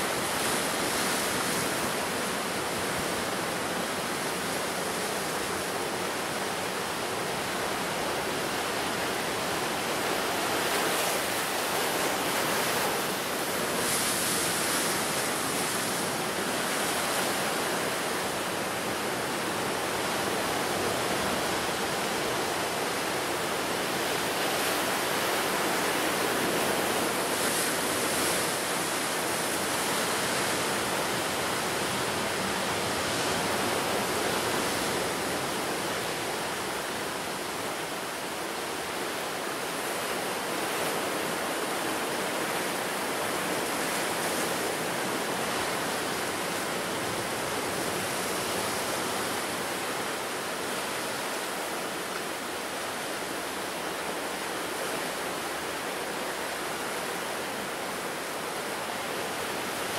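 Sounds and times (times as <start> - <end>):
ocean surf washing onto shore: 0.0 - 59.9.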